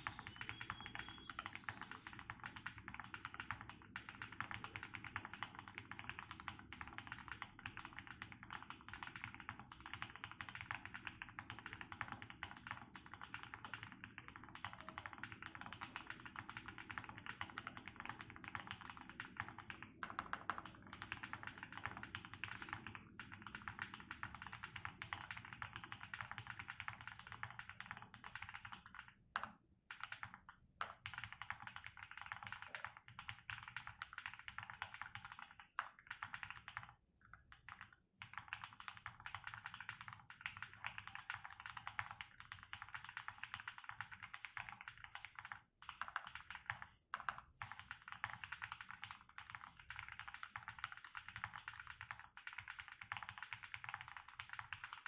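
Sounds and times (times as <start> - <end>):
fast typing on mechanical keyboard: 0.0 - 55.0.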